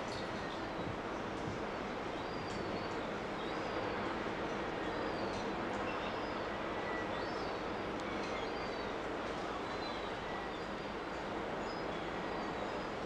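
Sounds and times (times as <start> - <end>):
low drone of ship engines: 0.0 - 13.0.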